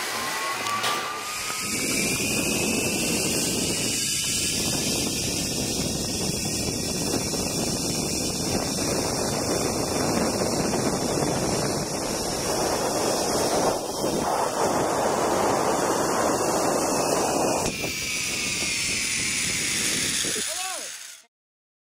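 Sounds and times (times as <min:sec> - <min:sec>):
wind noise on microphone: 0:00.0 - 0:20.6.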